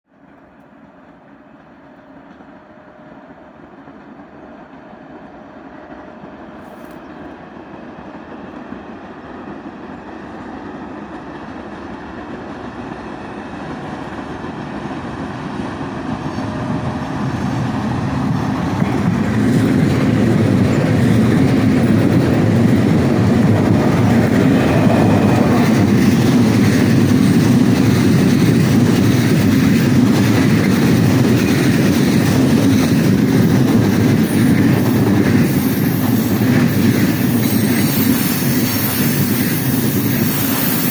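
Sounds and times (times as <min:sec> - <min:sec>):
electric locomotive hauling train: 0:00.1 - 0:40.9
train wheels on rails: 0:00.1 - 0:40.9.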